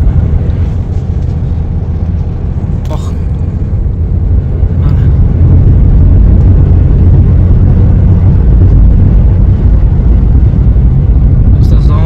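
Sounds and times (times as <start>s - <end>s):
road and wind noise inside car: 0.0s - 12.0s.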